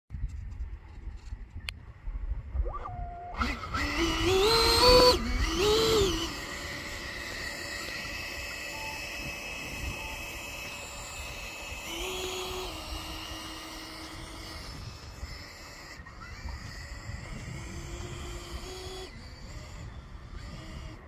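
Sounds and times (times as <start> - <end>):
wind rumble on microphone: 0.1 - 21.0
model jet engine whine: 2.5 - 21.0.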